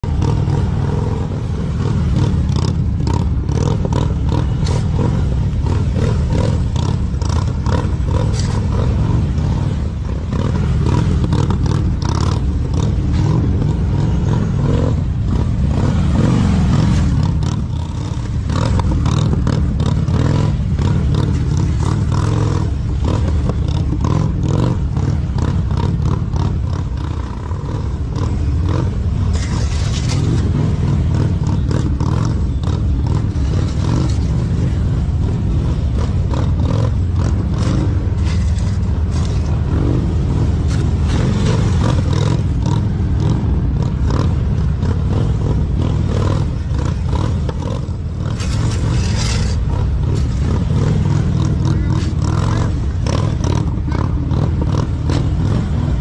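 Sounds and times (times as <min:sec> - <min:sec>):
motorcycle engine at low revs: 0:00.0 - 0:56.0.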